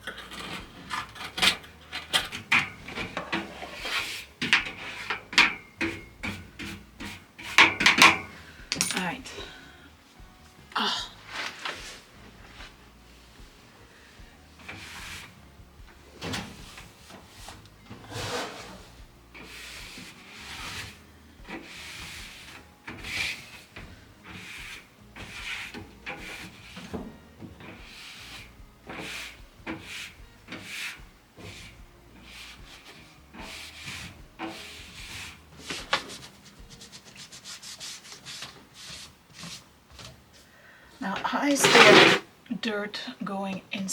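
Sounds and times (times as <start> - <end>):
scrubbing strokes: 0.0 - 9.8, 11.2 - 15.4, 16.4 - 40.1, 41.0 - 42.2.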